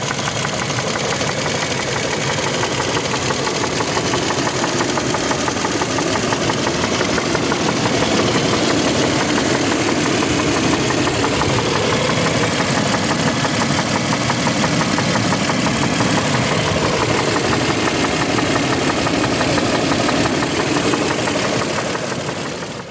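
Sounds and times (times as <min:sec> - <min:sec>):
car engine idling: 0:00.0 - 0:22.9
engine knocking tick: 0:00.0 - 0:22.9.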